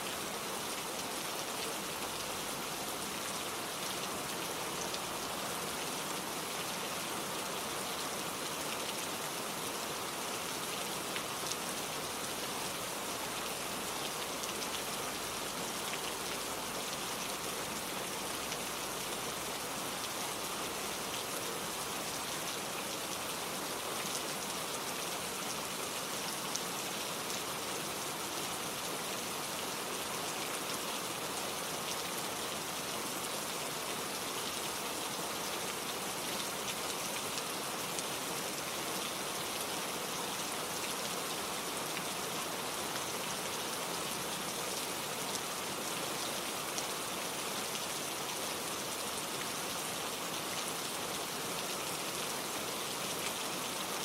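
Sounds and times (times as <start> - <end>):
gentle rain patter: 0.0 - 54.0.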